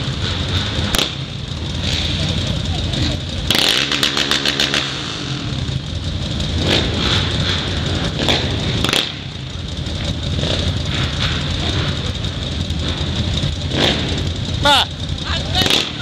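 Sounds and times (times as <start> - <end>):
engine chugging in rapid pulses: 0.0 - 16.0
quad bike engines idling: 0.0 - 16.0.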